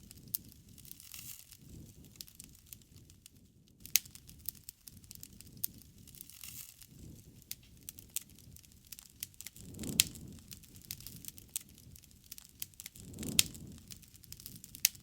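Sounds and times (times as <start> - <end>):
low rush of burning: 0.0 - 15.0
wood fire crackling and popping: 0.0 - 15.0.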